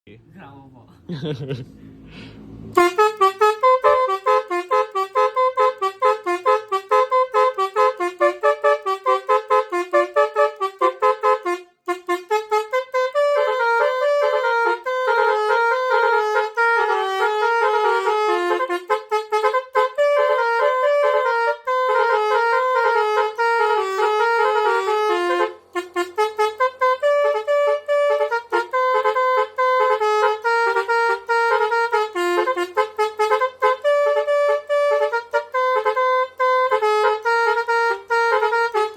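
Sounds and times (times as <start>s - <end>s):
air horn playing a fast tune: 2.7s - 38.9s.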